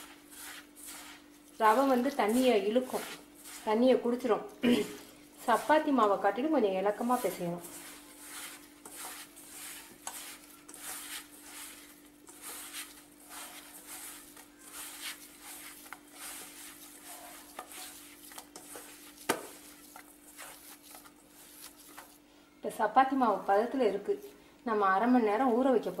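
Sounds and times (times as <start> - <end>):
dough rubbing against metal bowl: 0.0 - 22.2.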